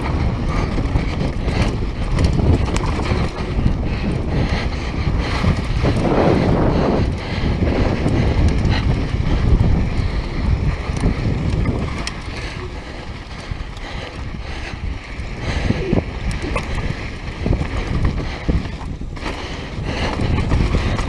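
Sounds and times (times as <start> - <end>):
bike rattling over bumps: 0.0 - 21.0
mountain bike rolling on dirt: 0.0 - 21.0
wind buffeting microphone: 0.0 - 21.0.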